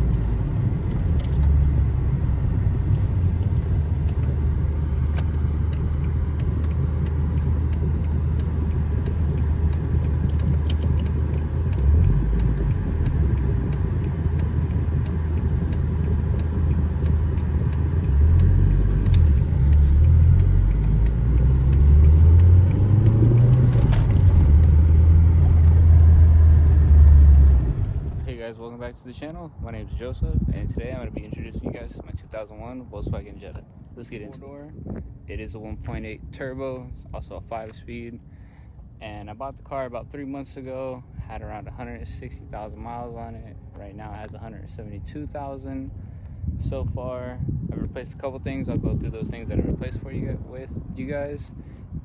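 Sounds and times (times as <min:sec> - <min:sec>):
car engine rumbling: 0:00.0 - 0:52.0.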